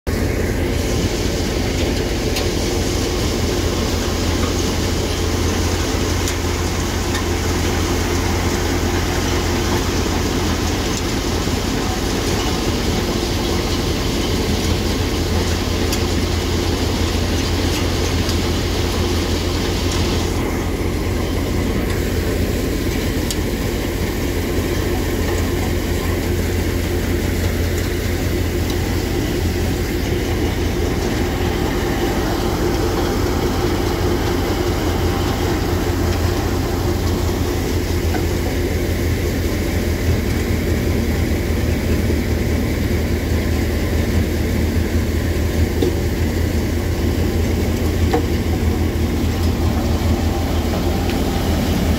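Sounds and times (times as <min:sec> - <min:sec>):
thresher droning: 0:00.1 - 0:51.9.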